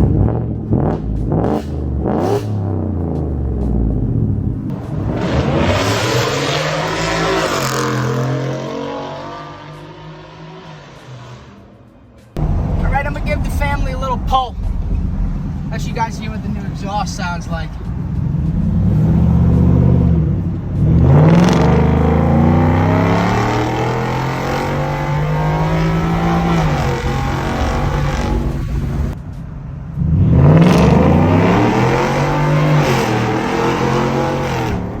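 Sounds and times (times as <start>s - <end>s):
truck engine accelerating hard: 0.0s - 11.7s, 14.6s - 29.2s, 29.9s - 35.0s.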